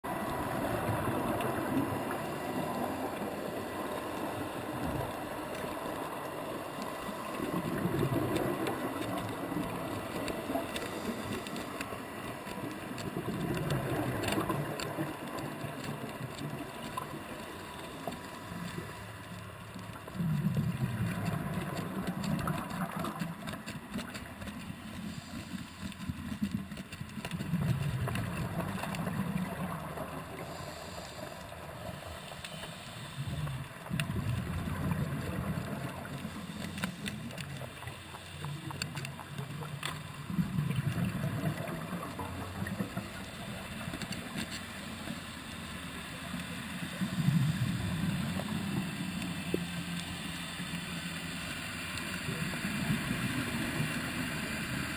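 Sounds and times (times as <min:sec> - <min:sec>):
underwater scuba bubbles rumbling: 0:00.1 - 0:54.9.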